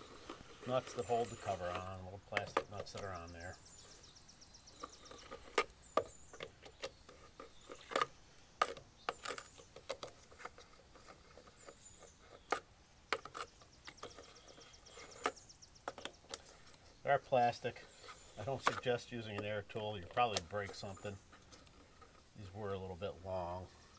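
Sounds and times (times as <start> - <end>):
faint bird chirps: 0.0 - 23.9.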